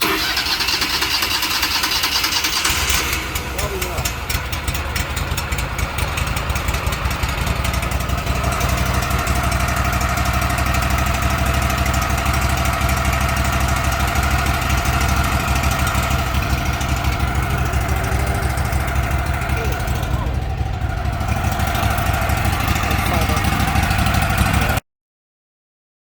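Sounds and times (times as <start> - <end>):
sawmill engine running: 0.0 - 24.8.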